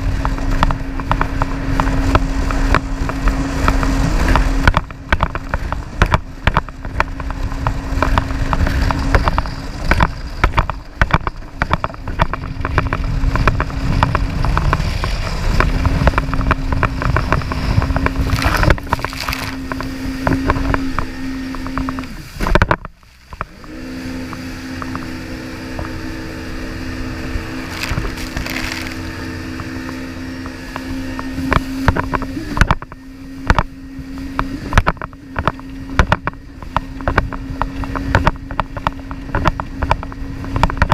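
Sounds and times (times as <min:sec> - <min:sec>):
jet ski engine running: 0:00.0 - 0:40.9
wind buffeting: 0:00.0 - 0:40.9.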